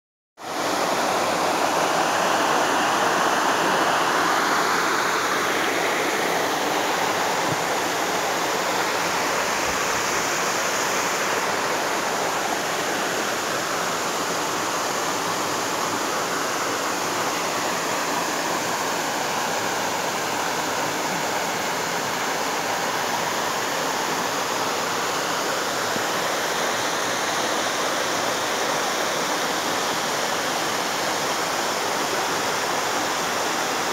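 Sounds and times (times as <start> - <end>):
water rushing over rocks: 0.4 - 33.9.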